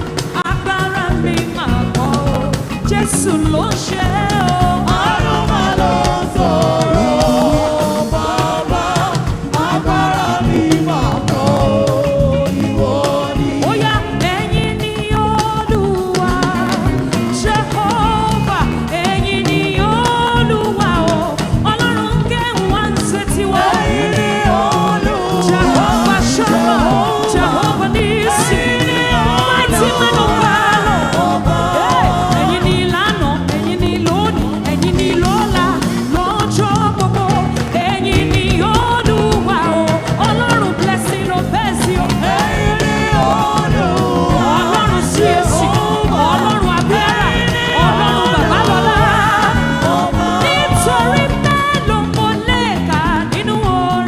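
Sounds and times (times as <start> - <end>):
band with steady beat: 0.0 - 54.0
person singing: 0.0 - 54.0.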